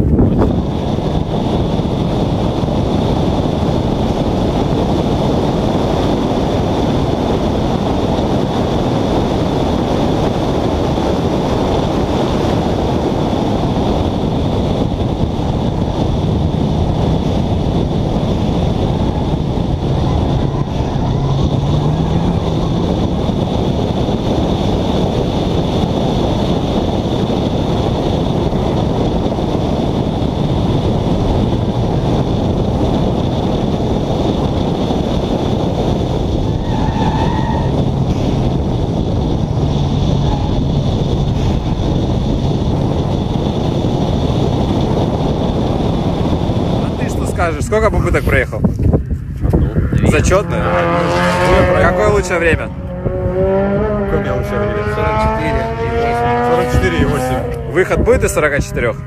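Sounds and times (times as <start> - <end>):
car engine running: 0.0 - 59.0
wind rushing over microphone: 0.0 - 59.0.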